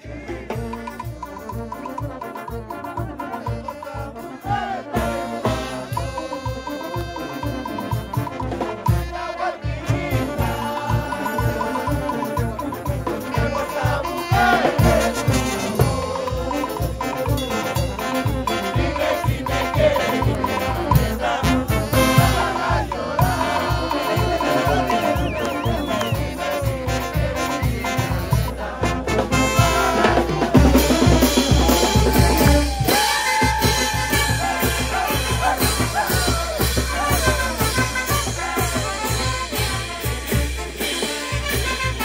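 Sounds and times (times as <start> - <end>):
bass drum and cymbals beat: 0.0 - 42.0
brass band playing: 0.0 - 42.0.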